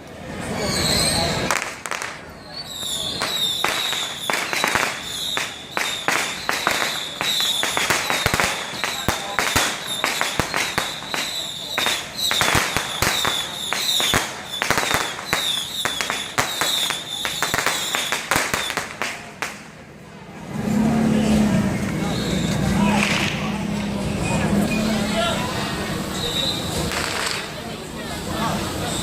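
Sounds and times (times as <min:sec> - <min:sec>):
firecrackers banging: 0:00.3 - 0:29.0.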